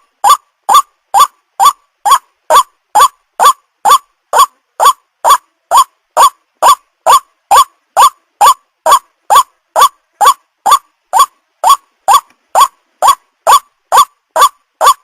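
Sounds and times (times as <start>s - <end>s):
waterhen calling: 0.2s - 15.0s.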